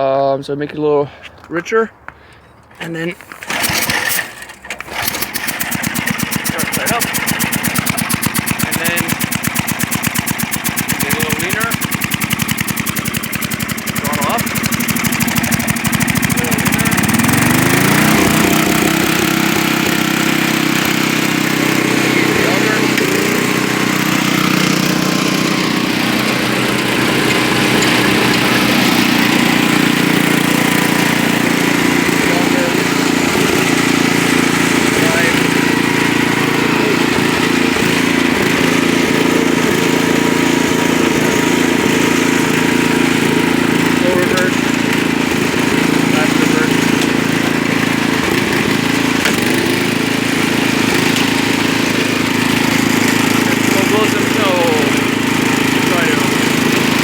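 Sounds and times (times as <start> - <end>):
small engine running steadily: 3.4 - 57.0.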